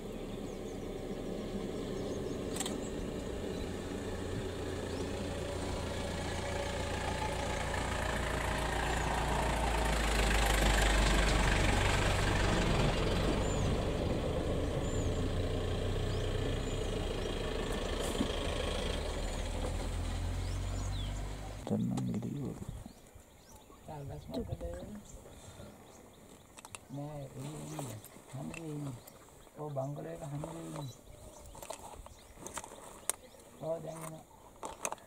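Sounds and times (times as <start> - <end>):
vehicle engine idling: 0.0 - 29.2.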